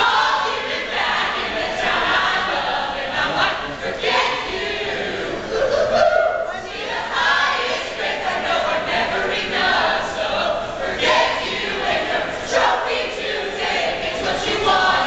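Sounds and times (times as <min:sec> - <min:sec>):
chorus singing: 0:00.0 - 0:15.0
crowd noise: 0:00.0 - 0:15.0.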